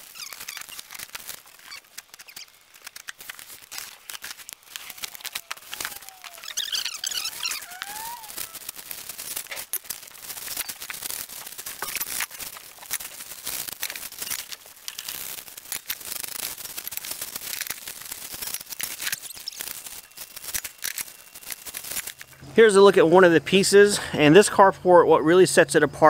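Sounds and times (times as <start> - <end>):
plastic bags crinkling and tearing: 0.0 - 22.4
sharp crackles and clicks: 0.0 - 22.4.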